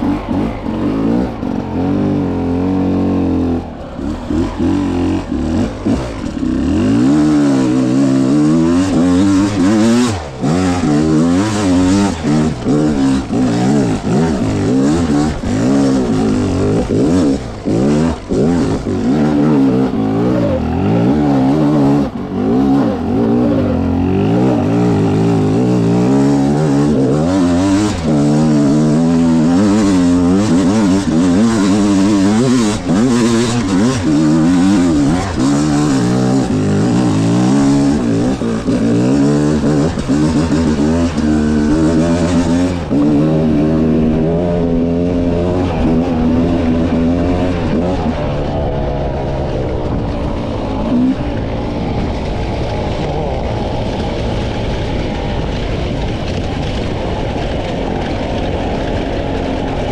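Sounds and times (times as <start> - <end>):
dirt bike engine revving: 0.0 - 54.4.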